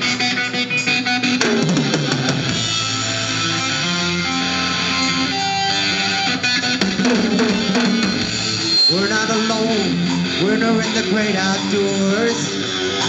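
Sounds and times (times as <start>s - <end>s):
bass guitar: 0.0s - 13.0s
drums: 0.0s - 13.0s
electric guitar sustained notes: 0.0s - 13.0s.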